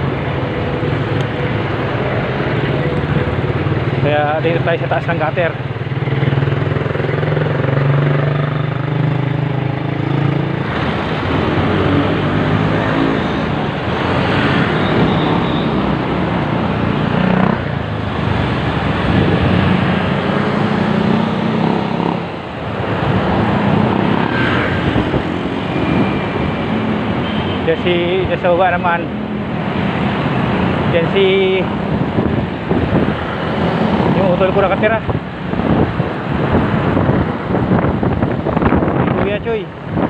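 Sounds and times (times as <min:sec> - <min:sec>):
car engines passing: 0:00.0 - 0:40.0
motorcycle engines passing: 0:00.0 - 0:40.0
road noise rush: 0:00.0 - 0:40.0.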